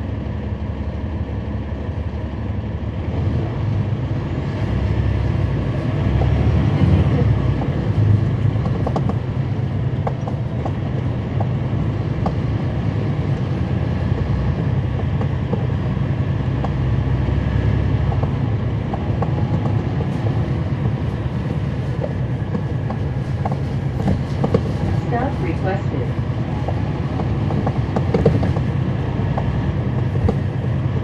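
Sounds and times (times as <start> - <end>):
bus body rattling: 0.0 - 31.0
bus diesel engine rumbling: 0.0 - 31.0.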